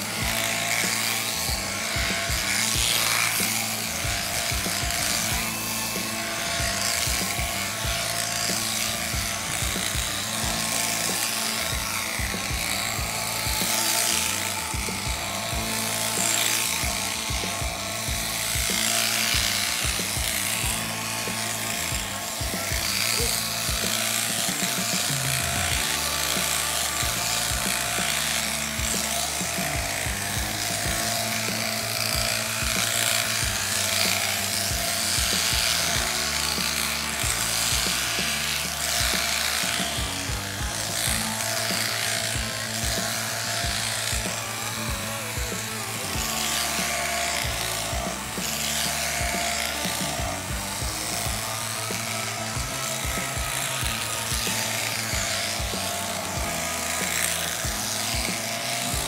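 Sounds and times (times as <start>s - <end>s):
background music with beat: 0.0s - 59.0s
electric shears buzzing: 0.0s - 59.0s.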